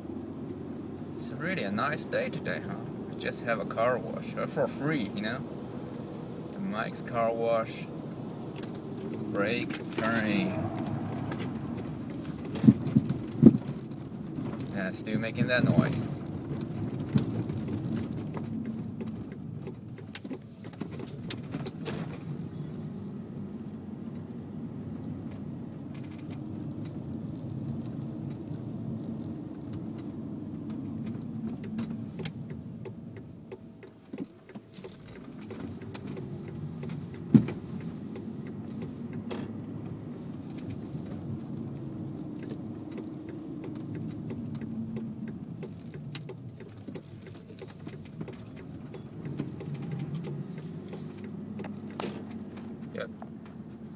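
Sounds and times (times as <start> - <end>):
car road and tyre noise: 0.0 - 53.9.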